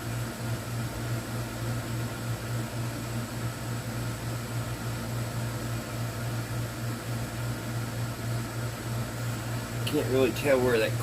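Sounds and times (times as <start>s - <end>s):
air conditioner hiss: 0.0s - 11.0s
air conditioner hum: 0.0s - 11.0s.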